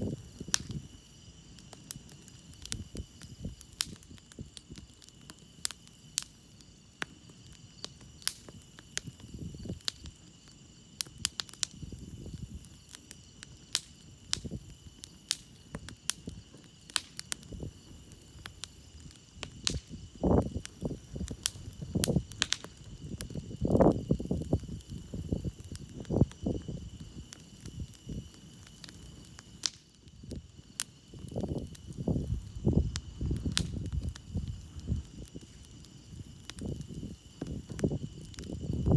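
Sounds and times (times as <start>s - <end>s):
campfire crackling and popping: 0.0s - 38.9s
crickets trilling: 0.0s - 38.9s
fire rushing puffs: 7.3s - 38.9s.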